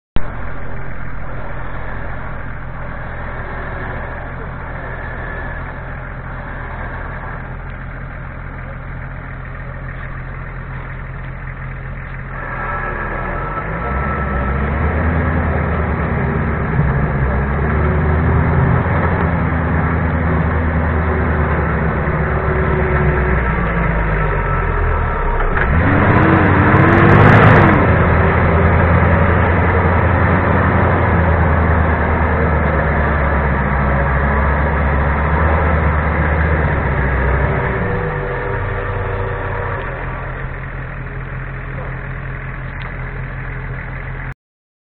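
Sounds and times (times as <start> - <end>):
engine at high revs: 0.2 - 44.2.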